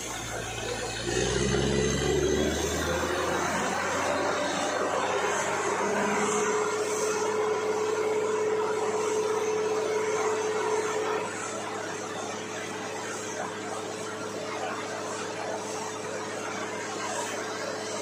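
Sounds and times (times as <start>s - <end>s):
drilling rig running: 0.0s - 18.0s
steady machine hum: 0.0s - 18.0s.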